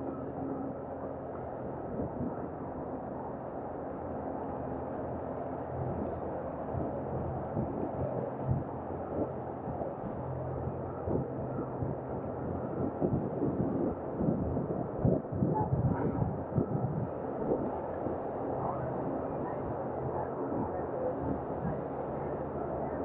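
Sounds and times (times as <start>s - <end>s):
faint engine hum: 0.0s - 23.0s.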